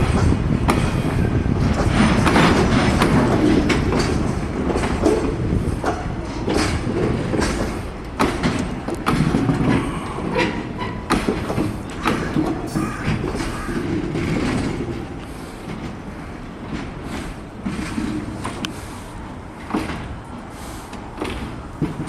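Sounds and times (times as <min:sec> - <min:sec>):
low rumble of wagons: 0:00.0 - 0:22.0
train wheels clicking over rail joints: 0:00.0 - 0:22.0.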